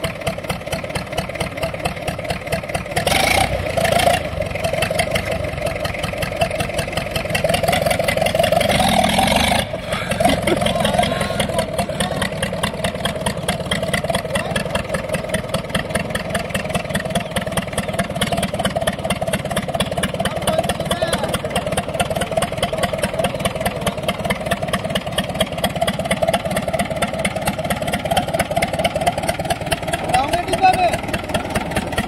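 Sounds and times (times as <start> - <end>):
tractor diesel engine chugging: 0.0 - 32.0.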